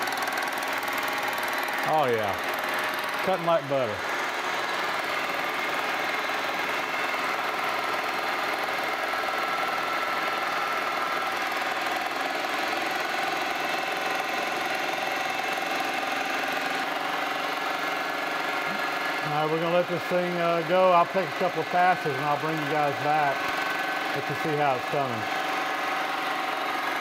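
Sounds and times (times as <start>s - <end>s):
milling machine cutting metal: 0.0s - 27.0s.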